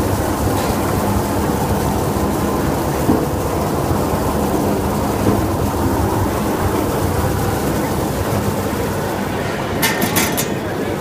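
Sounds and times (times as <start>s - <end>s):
low machine rumble: 0.0s - 11.0s.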